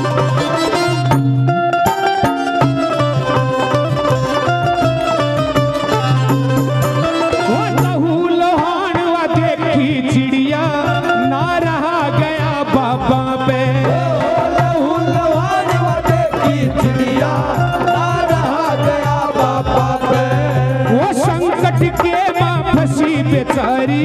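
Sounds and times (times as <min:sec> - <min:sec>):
devotional music melody: 0:00.0 - 0:24.0
percussion: 0:00.0 - 0:24.0.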